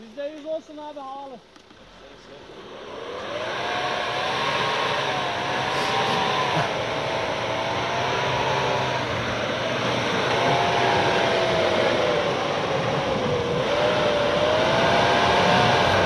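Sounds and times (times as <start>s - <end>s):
electric winch whining: 1.8s - 16.0s.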